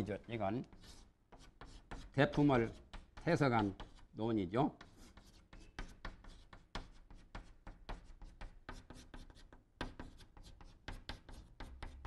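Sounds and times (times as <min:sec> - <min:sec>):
chalk writing on blackboard: 0:00.0 - 0:12.0.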